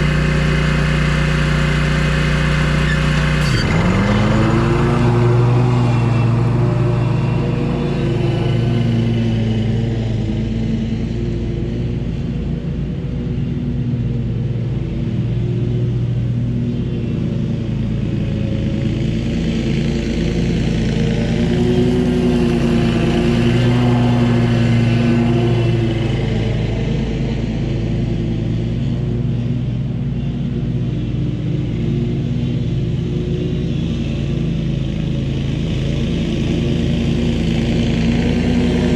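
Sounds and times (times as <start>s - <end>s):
mower engine running: 0.0s - 11.4s, 17.8s - 38.9s.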